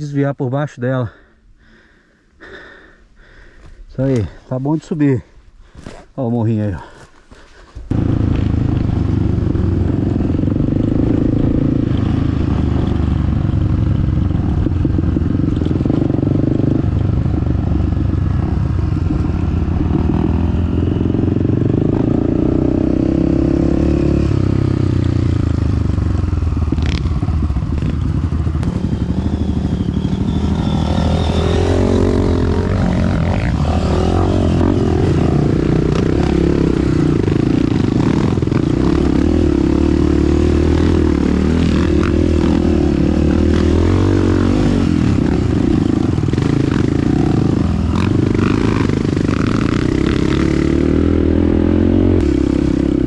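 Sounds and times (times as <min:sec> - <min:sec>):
dirt bike engine running: 0:07.9 - 0:53.0.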